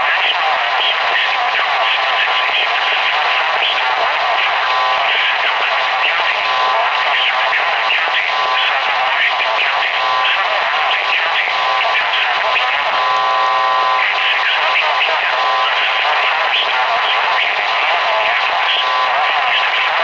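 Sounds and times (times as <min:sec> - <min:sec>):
buried radio voice: 0:00.0 - 0:20.0
radio static hiss: 0:00.0 - 0:20.0.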